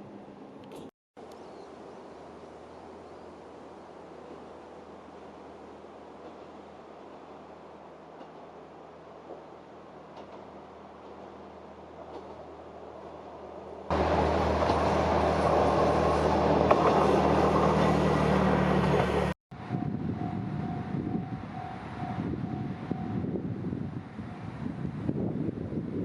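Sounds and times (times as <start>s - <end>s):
diesel railcar engine hum: 0.0s - 26.0s
train running noise: 2.5s - 25.1s.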